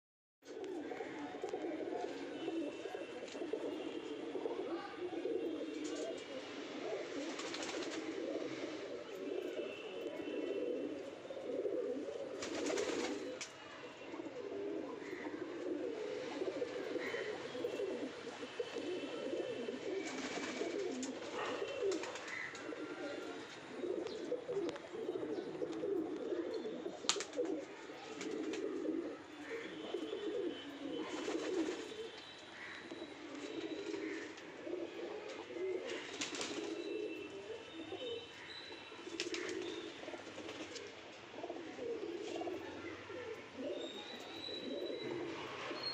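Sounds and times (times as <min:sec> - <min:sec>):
pigeons cooing: 0:00.5 - 0:45.9.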